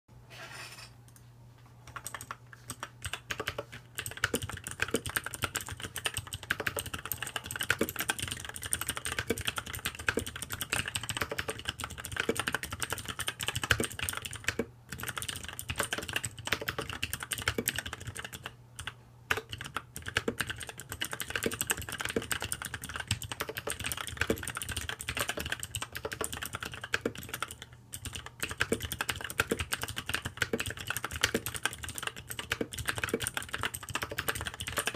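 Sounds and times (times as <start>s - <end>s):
mechanical keyboard typing: 1.9s - 34.9s.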